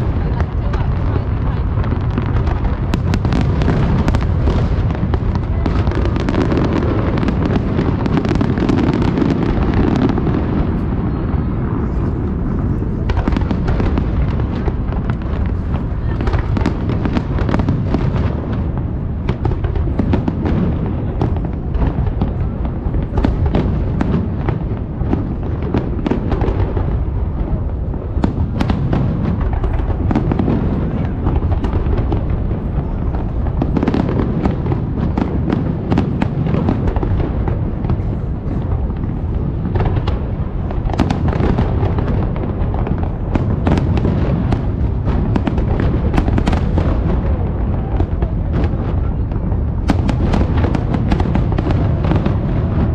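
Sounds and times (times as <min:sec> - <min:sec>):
fireworks bangs and crackles: 0:00.0 - 0:52.9
low rumble of fireworks booms: 0:00.0 - 0:52.9.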